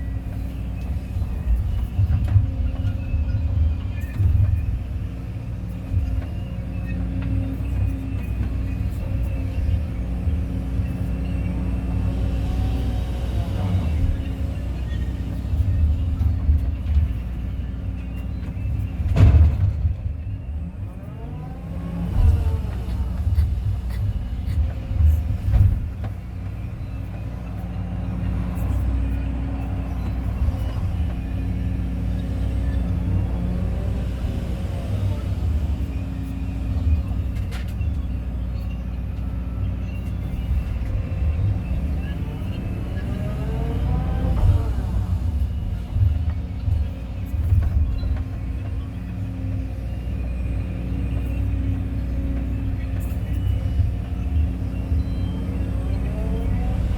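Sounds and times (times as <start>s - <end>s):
excavator diesel engine droning: 0.0s - 56.9s.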